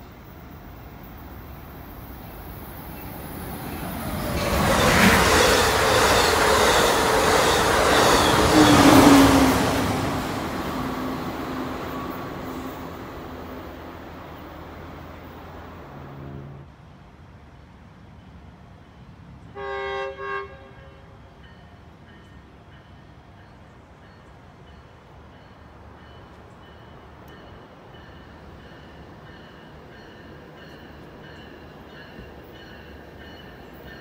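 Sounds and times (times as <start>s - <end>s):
passenger train passing: 0.0s - 34.0s.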